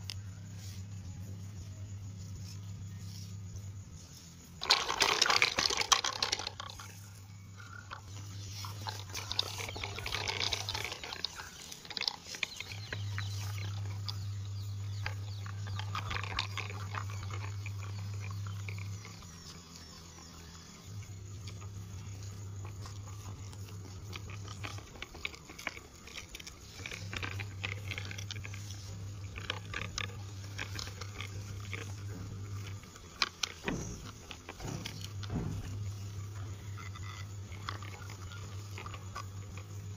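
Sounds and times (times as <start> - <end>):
toy wheels crackling on grit: 0.0 - 39.9.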